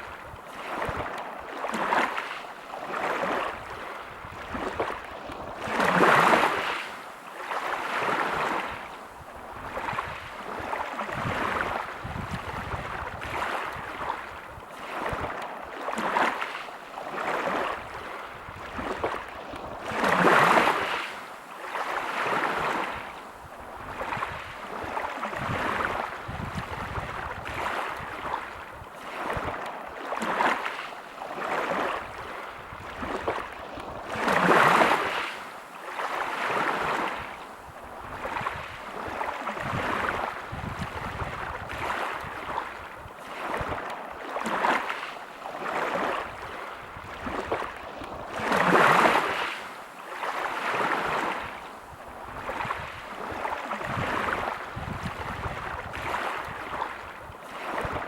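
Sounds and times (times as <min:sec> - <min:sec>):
waves washing over pebbles: 0:00.0 - 0:58.0.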